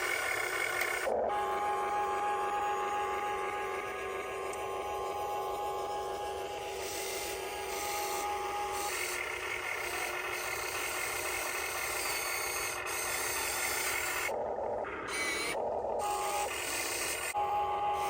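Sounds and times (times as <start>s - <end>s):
small electric motors whirring: 0.0s - 18.0s.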